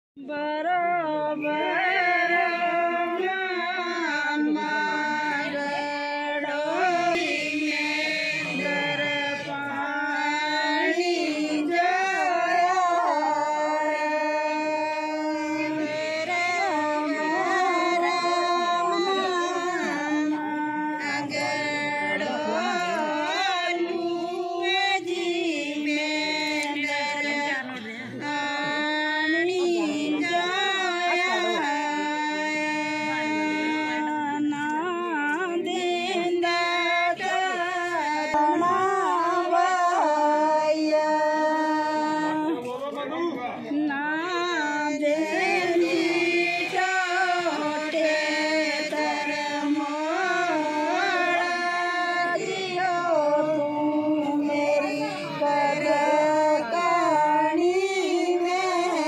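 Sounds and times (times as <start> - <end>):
women singing folk song: 0.2 - 42.6, 43.9 - 59.0.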